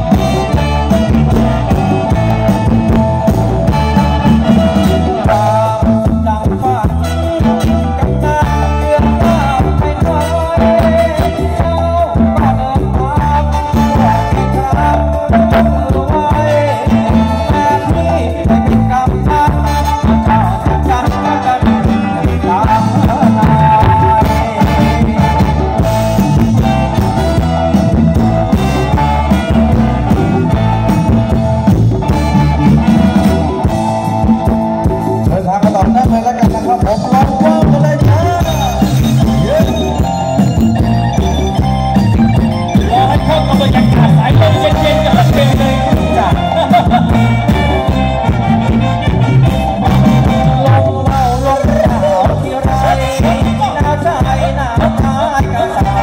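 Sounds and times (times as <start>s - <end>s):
live band dance music: 0.0s - 56.0s.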